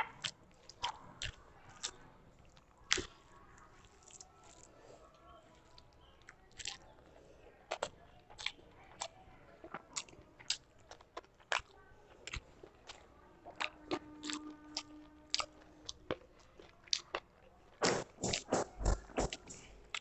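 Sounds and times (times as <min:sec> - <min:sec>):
fingers mixing rice: 0:00.0 - 0:20.0
wet chewing clicks and smacks: 0:00.0 - 0:20.0.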